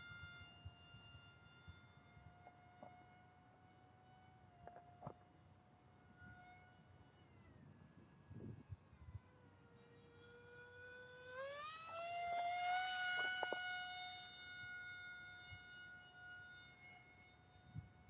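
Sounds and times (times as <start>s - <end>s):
electric motor propeller whine: 0.0s - 18.0s.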